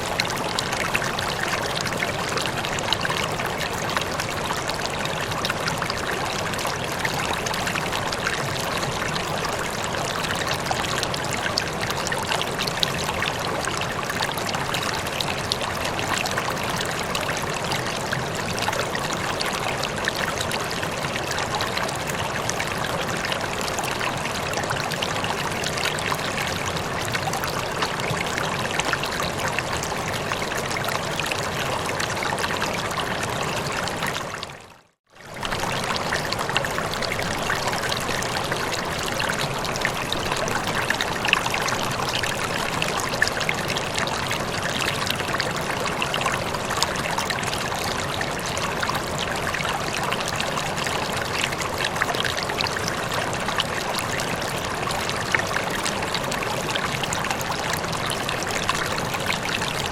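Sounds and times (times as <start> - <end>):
running water trickling and splashing: 0.0 - 59.9.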